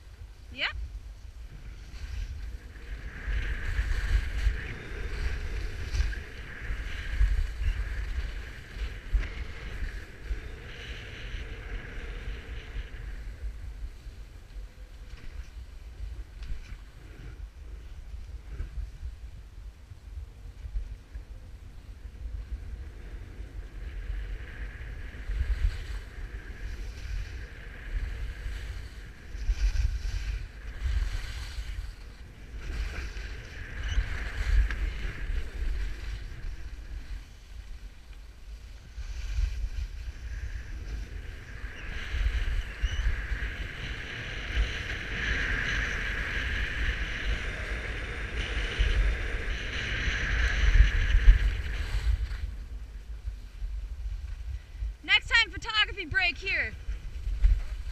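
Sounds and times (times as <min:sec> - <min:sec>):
sliding on packed snow: 0:00.0 - 0:20.3, 0:21.7 - 0:57.9
wind buffeting microphone: 0:00.0 - 0:57.9.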